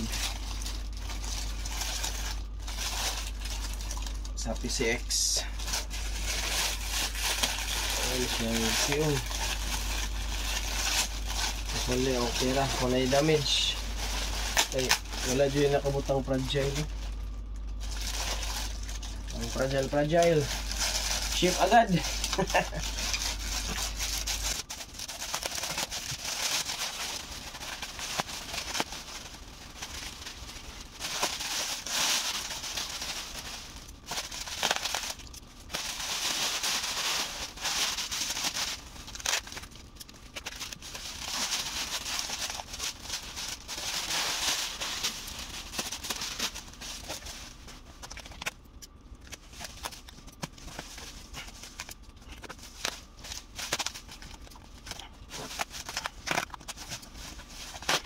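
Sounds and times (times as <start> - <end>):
plastic packaging rustling: 0.0 - 58.0.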